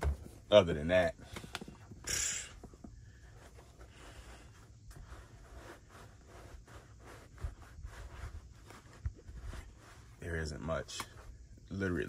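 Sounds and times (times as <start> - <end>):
faint rustling and scraping: 0.0 - 12.0.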